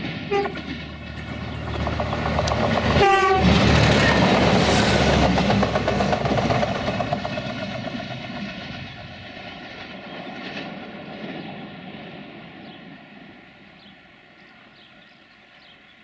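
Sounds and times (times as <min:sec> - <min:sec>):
diesel train engine drone: 0:00.0 - 0:15.6.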